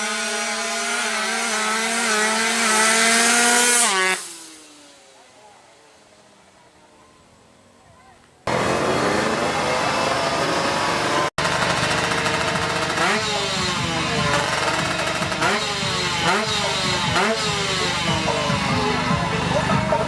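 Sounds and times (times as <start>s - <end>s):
motorcycle engine revving: 0.0s - 6.6s, 8.4s - 20.0s.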